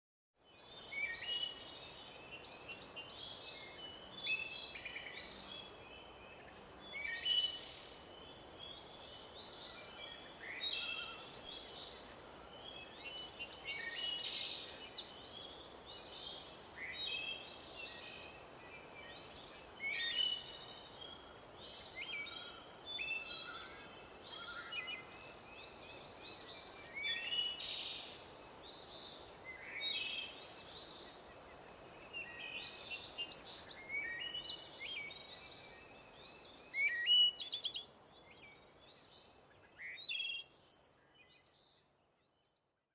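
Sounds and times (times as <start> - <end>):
steady background hiss: 0.5 - 42.1
birds chirping and trilling: 0.5 - 42.6.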